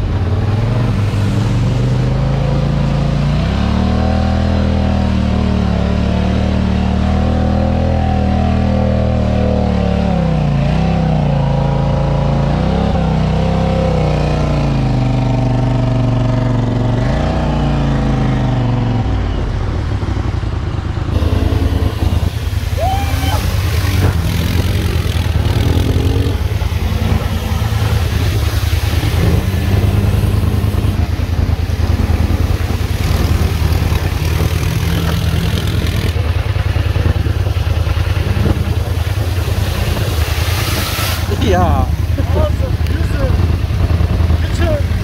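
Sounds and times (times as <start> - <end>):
off-road vehicle engine running: 0.0 - 45.0.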